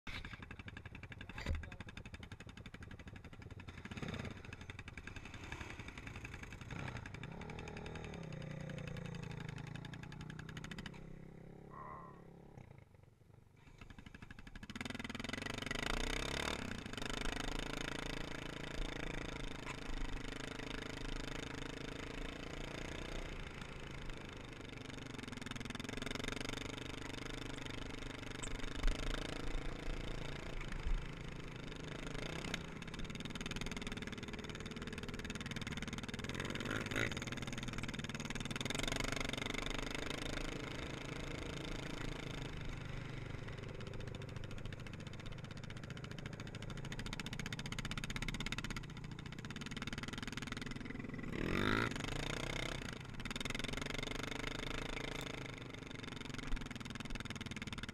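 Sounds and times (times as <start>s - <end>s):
quad bike engine revving: 0.1s - 13.0s, 13.6s - 57.9s.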